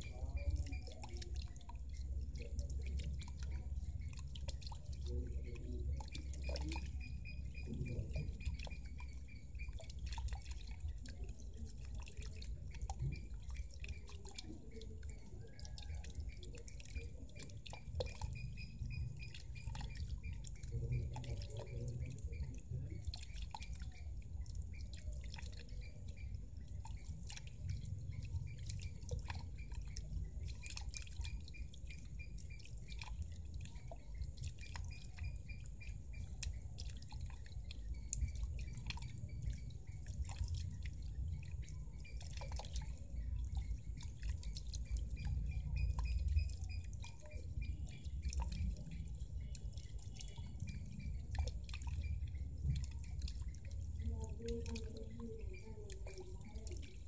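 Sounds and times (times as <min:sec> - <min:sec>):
fountain water splashing into pond: 0:00.0 - 0:57.0
water drips and plinks: 0:00.0 - 0:57.0.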